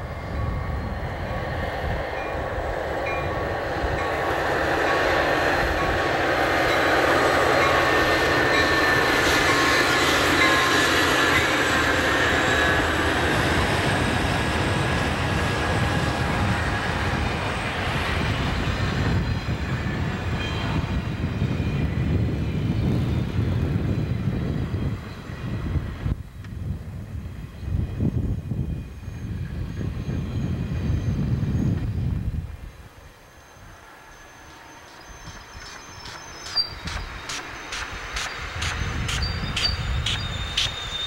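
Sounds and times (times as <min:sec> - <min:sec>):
diesel locomotives passing: 0:00.0 - 0:41.0.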